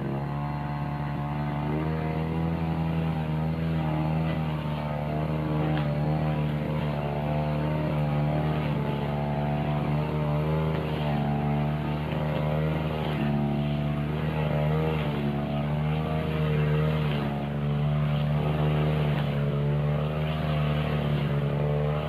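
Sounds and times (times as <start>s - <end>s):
brush cutter engine cutting grass: 0.0s - 22.0s.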